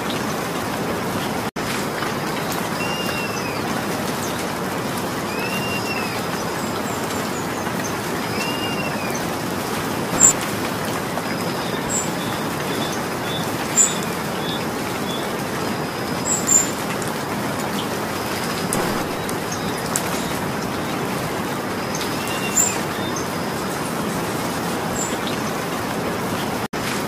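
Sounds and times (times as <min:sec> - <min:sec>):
sharp water drips: 0:00.0 - 0:27.0
steady rain falling: 0:00.0 - 0:27.0.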